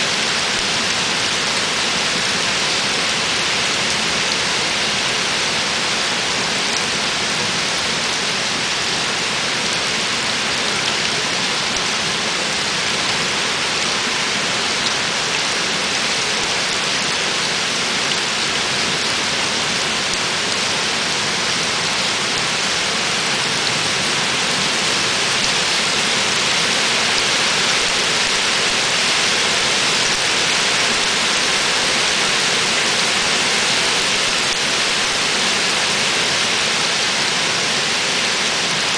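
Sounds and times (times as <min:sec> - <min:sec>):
heavy rain on stone paving: 0:00.0 - 0:38.9.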